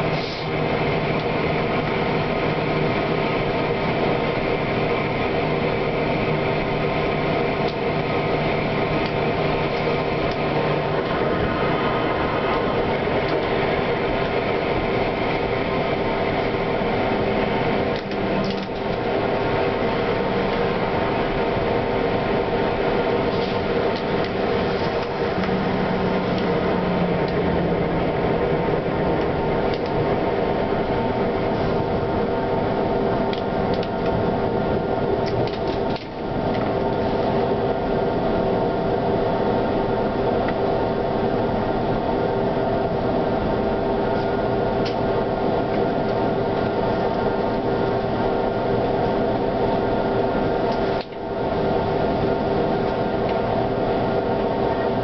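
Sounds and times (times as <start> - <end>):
tram wheels rolling on rails: 0.0 - 55.0.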